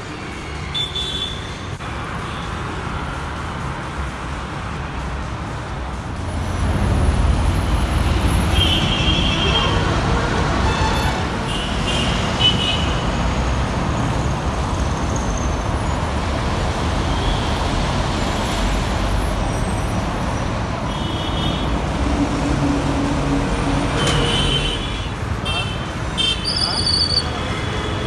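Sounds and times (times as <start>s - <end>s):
trucks and vehicles passing: 0.0s - 28.0s
tyres rolling on road: 1.7s - 12.4s, 13.0s - 28.0s.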